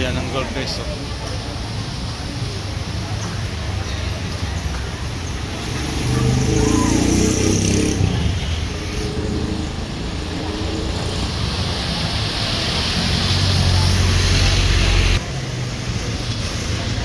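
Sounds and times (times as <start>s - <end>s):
traffic engines rumbling: 0.0s - 17.0s.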